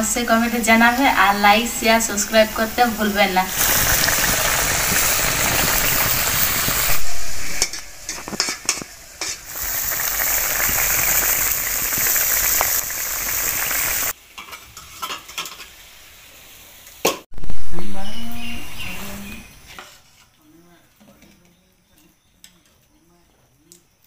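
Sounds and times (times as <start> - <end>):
curry boiling with sizzling hiss: 0.0 - 24.0.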